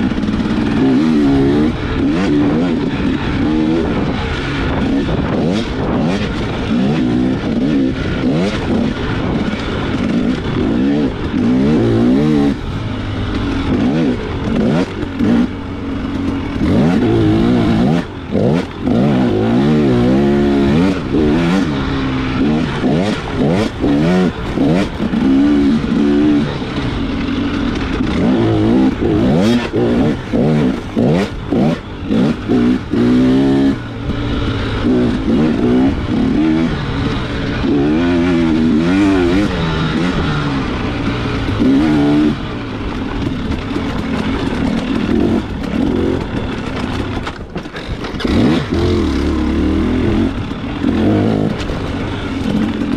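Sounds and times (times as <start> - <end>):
knocks and clatter from bike: 0.0 - 52.9
motorcycle engine revving: 0.0 - 52.9.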